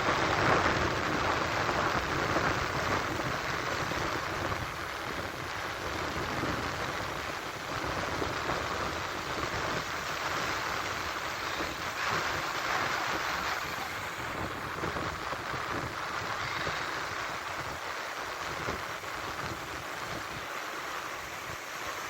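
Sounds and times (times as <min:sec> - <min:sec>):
surf rushing: 0:00.0 - 0:22.0
wind buffeting microphone: 0:00.0 - 0:22.0.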